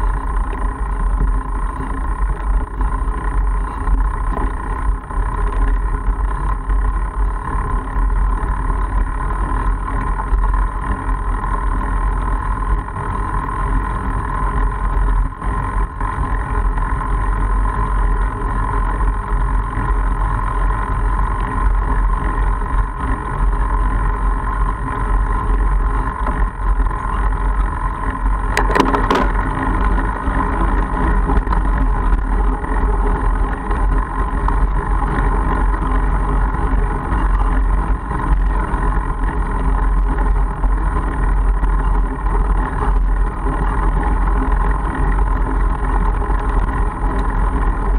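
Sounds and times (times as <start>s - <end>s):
bike tyres rolling on gravel: 0.0s - 47.9s
rattle of clicks: 0.0s - 47.9s.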